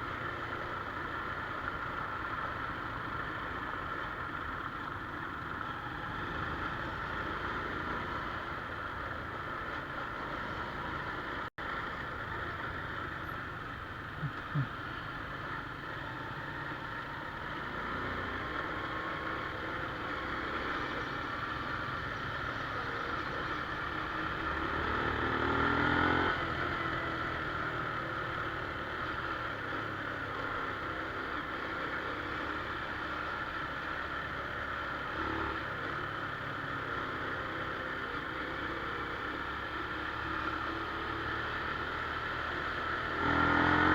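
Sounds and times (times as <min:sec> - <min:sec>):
road noise: 0:00.0 - 0:43.9
small motorcycle engine running: 0:00.0 - 0:43.9.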